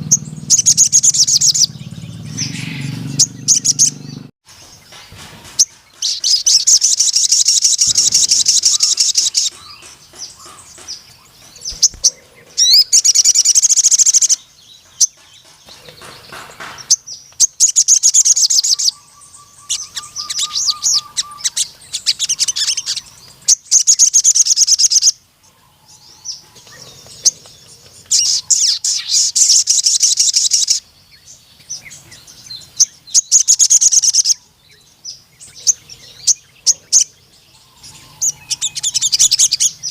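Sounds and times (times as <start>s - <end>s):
sunbird rapid high chattering song: 0.0s - 39.9s.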